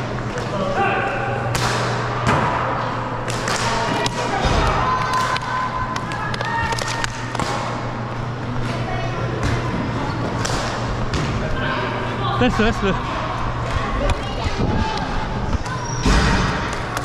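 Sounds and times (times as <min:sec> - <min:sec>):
players' voices: 0:00.0 - 0:17.0.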